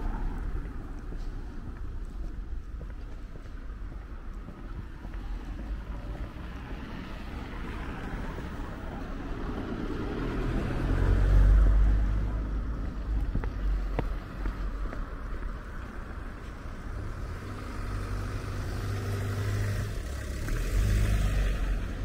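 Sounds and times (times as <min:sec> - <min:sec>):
street background noise: 0:00.0 - 0:22.0.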